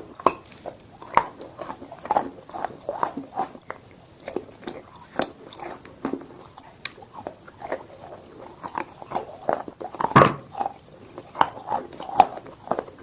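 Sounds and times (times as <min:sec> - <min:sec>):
chalk being chewed: 0:00.0 - 0:13.0.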